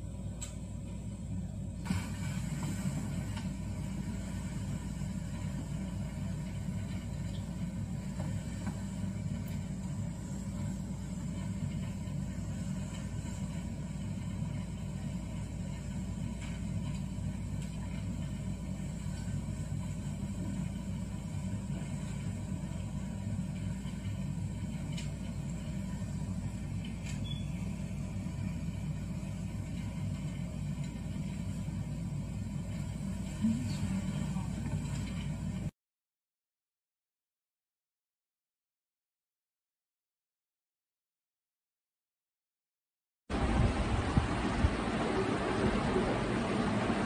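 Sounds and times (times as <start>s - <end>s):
low rumbling hum: 0.0s - 35.7s, 43.3s - 47.0s.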